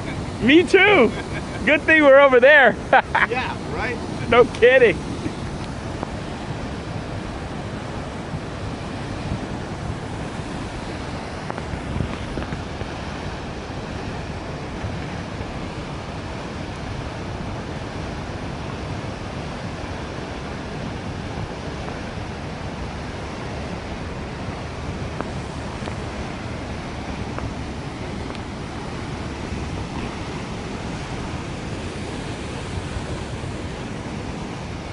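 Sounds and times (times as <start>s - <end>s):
water gushing from burst main: 0.0s - 34.9s.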